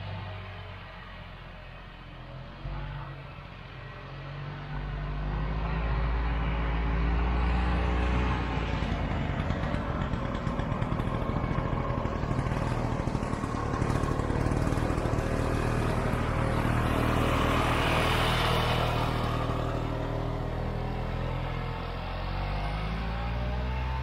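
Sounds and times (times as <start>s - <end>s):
snowmobile engine passing by: 2.3s - 24.0s.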